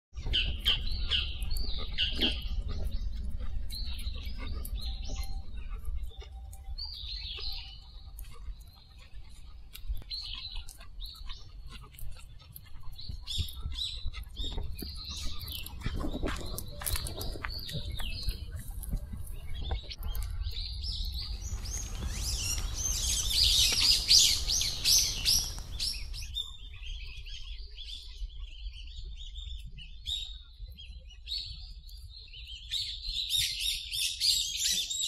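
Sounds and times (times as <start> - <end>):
wild birds chirping: 0.2 - 29.4.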